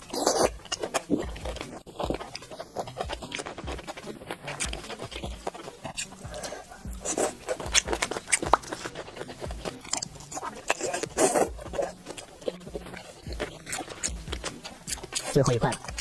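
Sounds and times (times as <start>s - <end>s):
biting and chewing food: 0.0s - 16.0s
mouth clicks and smacks: 0.0s - 16.0s.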